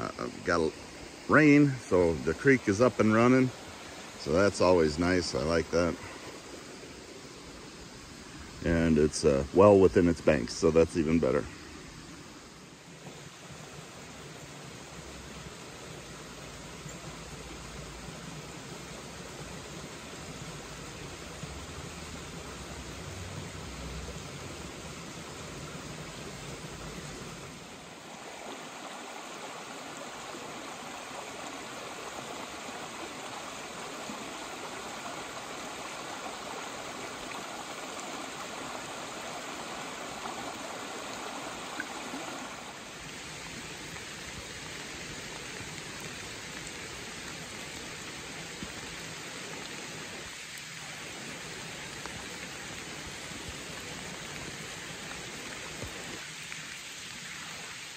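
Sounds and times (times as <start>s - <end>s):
creek water rushing: 0.0s - 57.9s.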